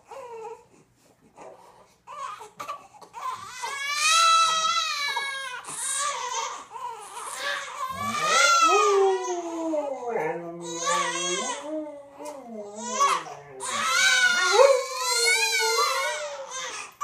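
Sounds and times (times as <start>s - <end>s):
baby crying: 2.1s - 17.0s.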